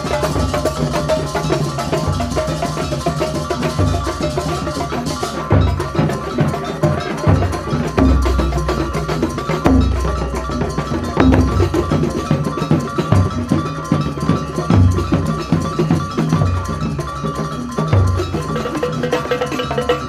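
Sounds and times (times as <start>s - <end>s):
hand drums: 0.0s - 20.0s
pot gongs and gongs: 0.0s - 20.0s.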